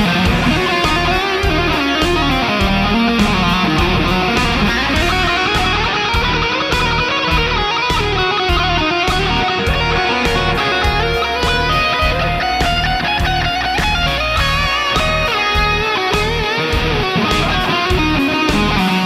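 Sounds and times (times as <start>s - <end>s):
electric guitar melody: 0.0s - 19.0s
steady drum beat: 0.0s - 19.0s.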